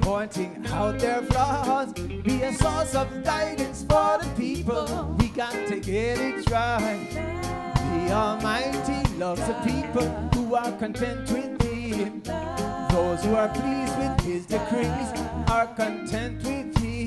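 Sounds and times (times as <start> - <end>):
reggae band playing: 0.0 - 17.0
sliding melodic lead: 0.4 - 17.0
heavy bass notes: 0.7 - 17.0.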